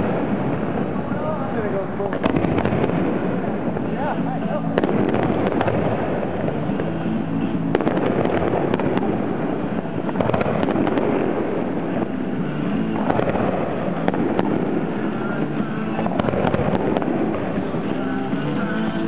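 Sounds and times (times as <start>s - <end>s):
fireworks launching and bursting: 0.0s - 19.0s
music: 0.0s - 19.0s
sharp fireworks reports: 0.0s - 19.0s.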